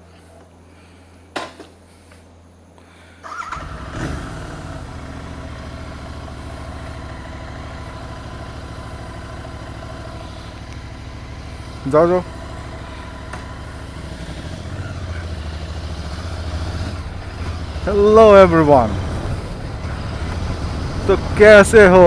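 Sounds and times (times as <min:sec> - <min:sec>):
motorcycle engine starting and idling: 0:03.2 - 0:22.0
low steady hum: 0:04.3 - 0:22.0.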